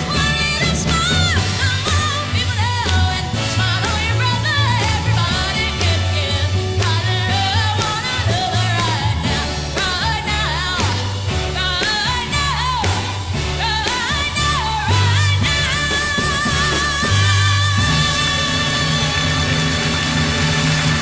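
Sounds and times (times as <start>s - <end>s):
woman singing with vibrato: 0.0s - 20.0s
band with pulsing bass line: 0.0s - 21.0s.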